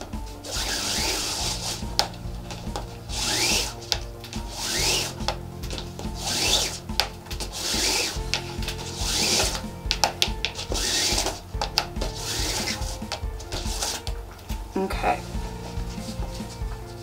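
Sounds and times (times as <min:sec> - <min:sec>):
background music with beat: 0:00.0 - 0:17.0
cord rasping through loop: 0:00.0 - 0:17.0.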